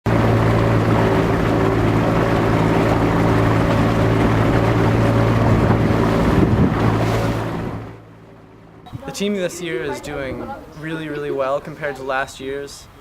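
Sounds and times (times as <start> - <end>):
water noise: 0.0 - 13.0
wind: 0.0 - 13.0
motorboat engine droning: 0.1 - 13.0.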